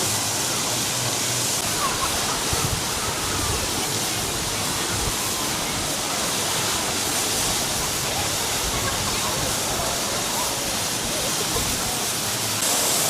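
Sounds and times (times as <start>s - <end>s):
faint voices: 0.0s - 13.0s
rushing water: 0.0s - 13.0s.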